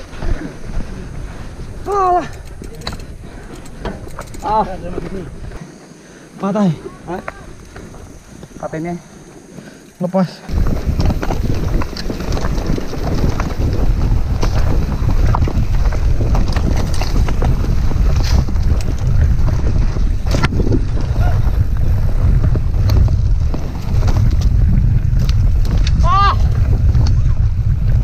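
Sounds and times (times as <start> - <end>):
wind buffeting microphone: 0.0 - 5.7, 10.4 - 28.0
bike rattling over bumps: 0.0 - 28.0
tyres rolling over dirt: 0.0 - 28.0.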